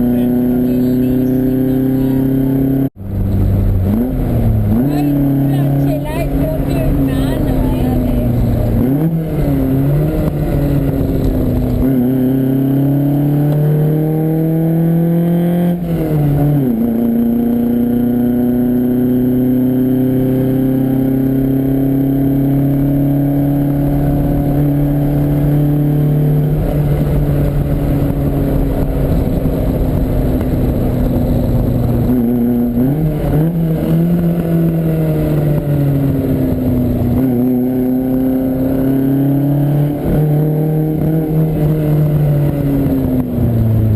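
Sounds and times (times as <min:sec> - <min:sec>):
car engine revving through gears: 0:00.0 - 0:43.9.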